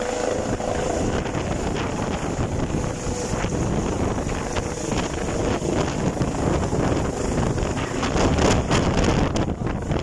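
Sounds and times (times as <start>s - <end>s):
helicopter rotor and engine: 0.0s - 10.0s
wind noise on microphone: 0.0s - 10.0s.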